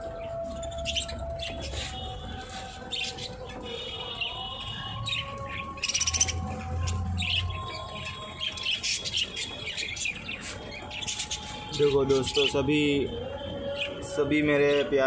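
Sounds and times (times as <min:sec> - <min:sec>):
budgerigars chirping and warbling: 0:00.0 - 0:14.9.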